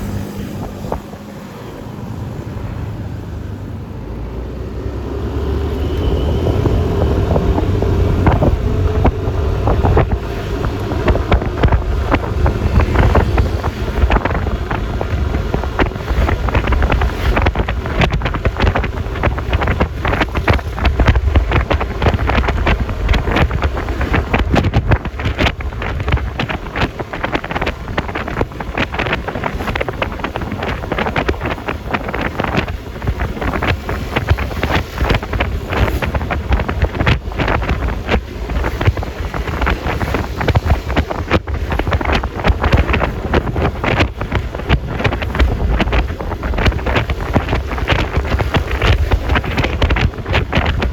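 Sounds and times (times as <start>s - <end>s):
scooter engine and road noise: 0.0s - 50.9s
wind buffeting microphone: 0.0s - 50.9s.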